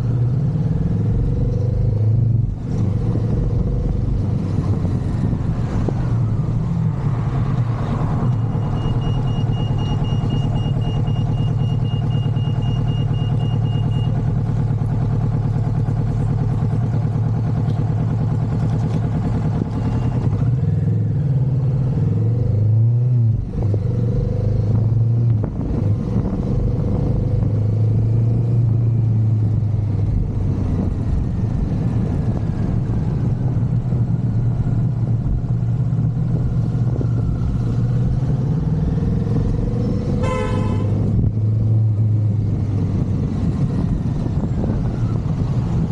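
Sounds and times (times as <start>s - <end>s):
motorcycle engine droning: 0.0s - 45.9s.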